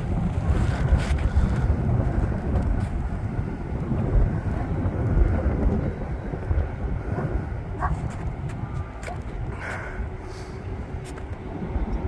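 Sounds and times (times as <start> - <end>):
distant freight train: 0.0 - 12.0
wind buffeting microphone: 0.0 - 12.0.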